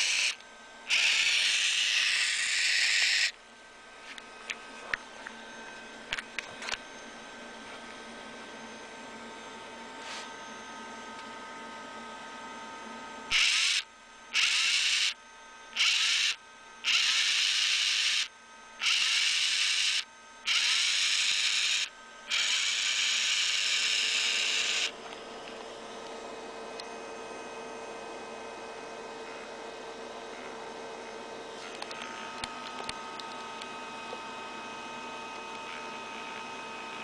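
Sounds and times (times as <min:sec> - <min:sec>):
faint steady hum: 0:00.0 - 0:37.0
welder wire-feed motor whine: 0:00.0 - 0:37.0.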